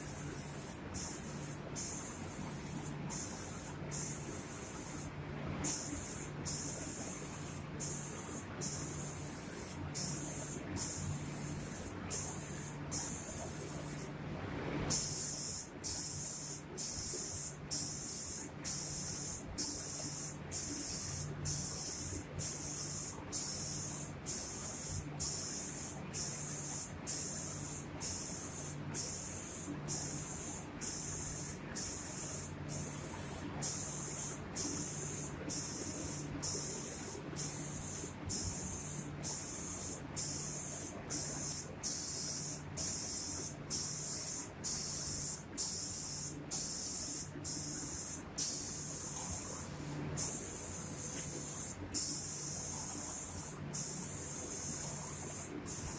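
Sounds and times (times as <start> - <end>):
spray gun hissing: 0.0 - 14.1, 14.9 - 55.9
faint low motor hum: 0.0 - 55.9.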